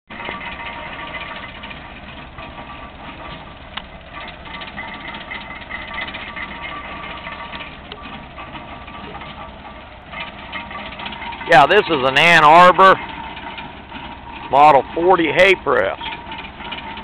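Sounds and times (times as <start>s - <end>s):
tractor engine running: 0.0s - 17.0s
gearing clicking and clattering: 0.1s - 17.0s.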